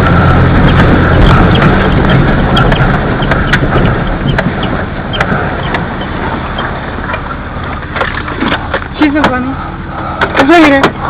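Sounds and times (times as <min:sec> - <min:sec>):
engine low hum: 0:00.0 - 0:11.0.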